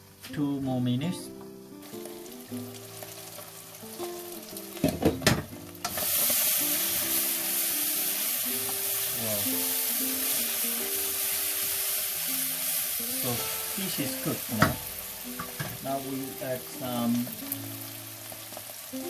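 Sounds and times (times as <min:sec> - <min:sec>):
food sizzling in a wok: 0:00.0 - 0:19.0
soft background music: 0:00.0 - 0:19.0.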